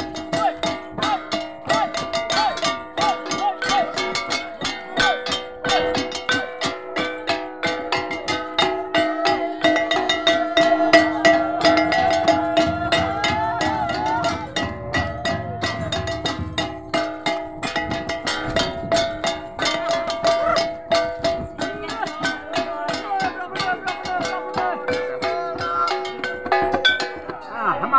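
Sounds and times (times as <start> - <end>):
hand drums beaten with sticks: 0.0 - 27.9
voices singing: 0.0 - 27.9.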